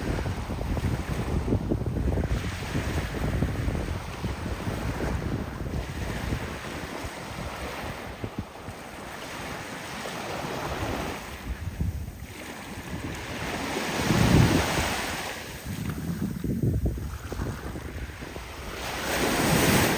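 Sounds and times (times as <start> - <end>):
waves washing onto beach: 0.0 - 19.9
wind on microphone: 0.0 - 19.9.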